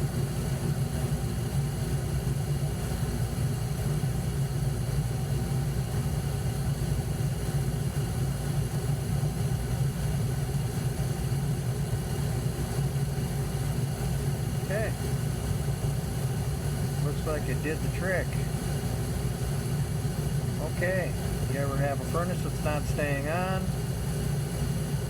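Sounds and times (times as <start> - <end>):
furnace humming: 0.0 - 25.0.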